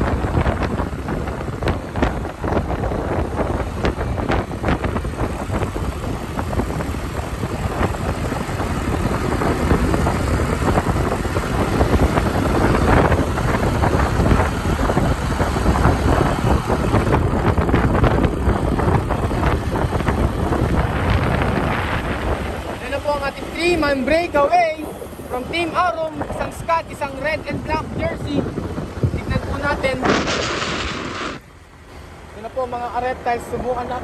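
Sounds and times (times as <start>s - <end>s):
vehicle engine: 0.0s - 34.0s
wind buffeting microphone: 0.0s - 34.0s.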